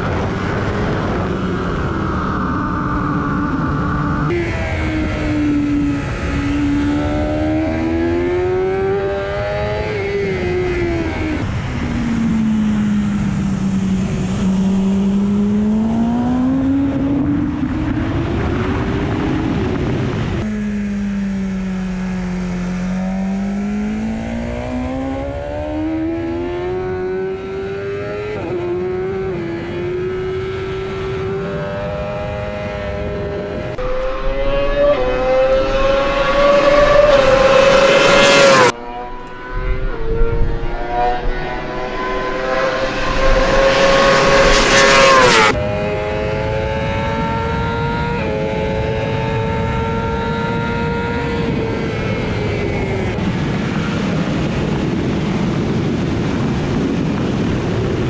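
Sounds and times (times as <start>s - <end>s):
motorcycle engine running at speed: 0.0s - 58.0s.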